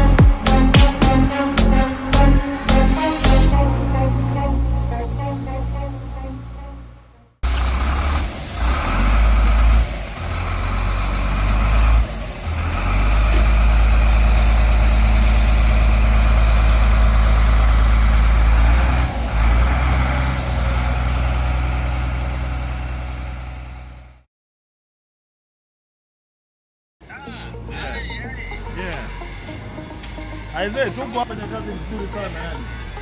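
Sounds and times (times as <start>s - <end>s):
heavy diesel truck engine rumbling: 0.0s - 24.2s, 27.0s - 33.0s.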